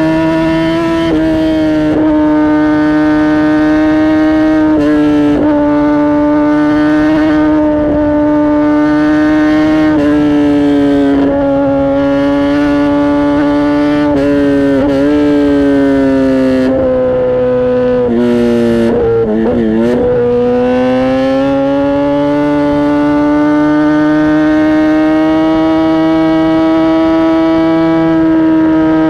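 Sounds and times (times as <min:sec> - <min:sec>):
motorcycle engine howling at high revs: 0:00.0 - 0:29.0.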